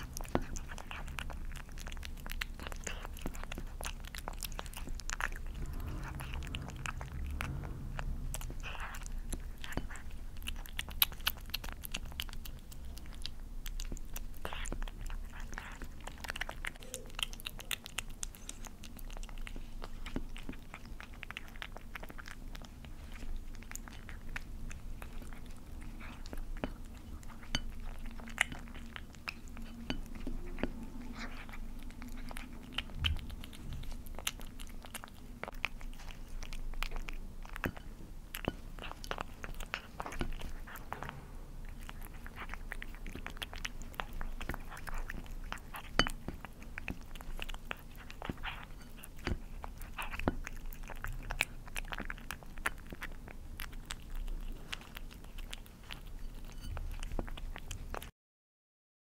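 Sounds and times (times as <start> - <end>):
kitten chewing wet food: 0.0 - 58.1.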